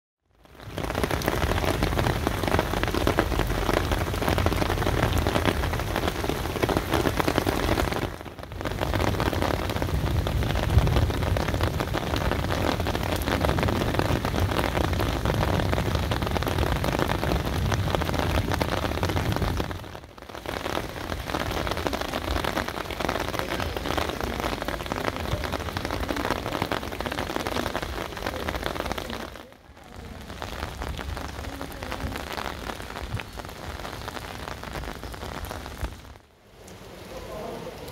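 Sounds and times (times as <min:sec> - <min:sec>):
rain pouring on pavement: 0:00.2 - 0:37.9.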